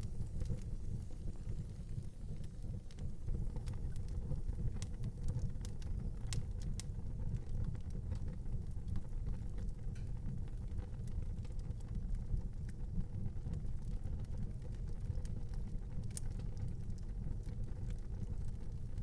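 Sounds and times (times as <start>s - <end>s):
fire crackling and popping: 0.0s - 19.0s
fire rumbling: 0.0s - 19.0s.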